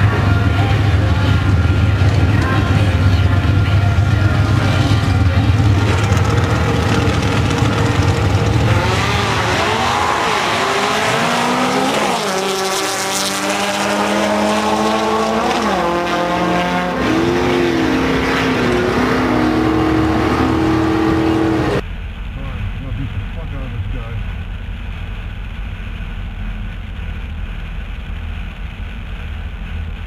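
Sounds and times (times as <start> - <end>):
drag racing car engine revving: 0.0 - 30.0.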